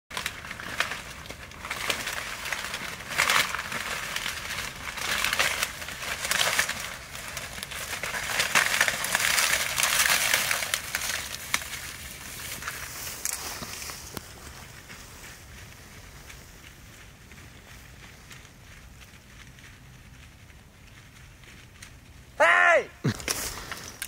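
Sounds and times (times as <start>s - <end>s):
dry cornstalks crackling and rustling: 0.1s - 24.0s.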